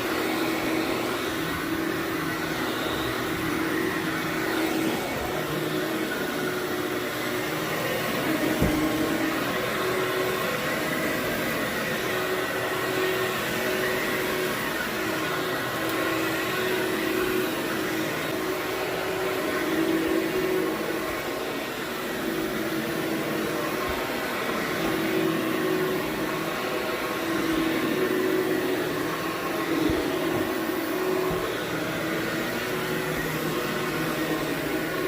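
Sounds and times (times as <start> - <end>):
vacuum cleaner on carpet: 0.0 - 35.0.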